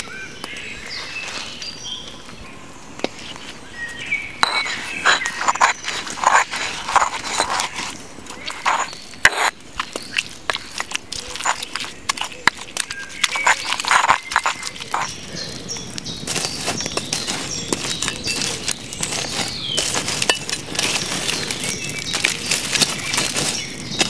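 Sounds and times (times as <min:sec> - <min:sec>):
spoon scraping in stone mortar: 0:04.4 - 0:24.0
wood fire crackling and popping: 0:04.4 - 0:24.0.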